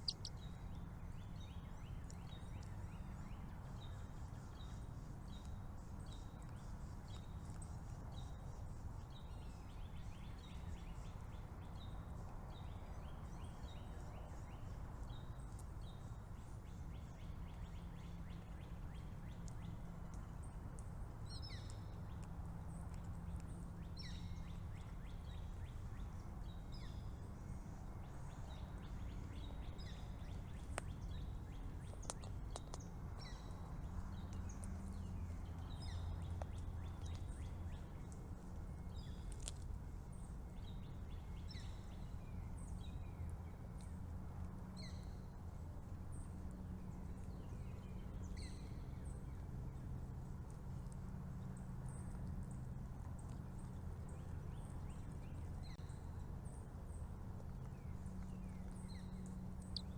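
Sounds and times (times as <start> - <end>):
small birds chirping: 0.0 - 44.0, 46.1 - 59.9.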